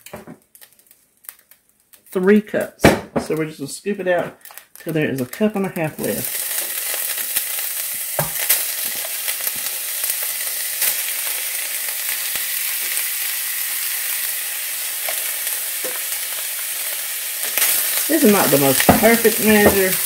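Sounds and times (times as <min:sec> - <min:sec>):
ground beef sizzling in skillet: 0:03.3 - 0:20.0.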